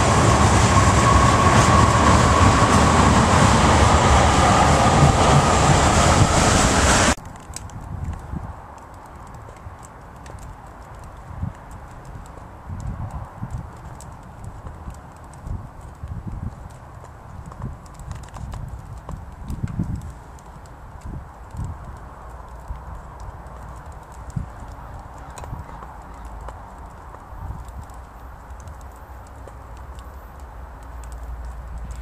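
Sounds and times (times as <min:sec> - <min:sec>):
wind buffeting microphone: 0:00.0 - 0:29.0, 0:31.5 - 0:32.0.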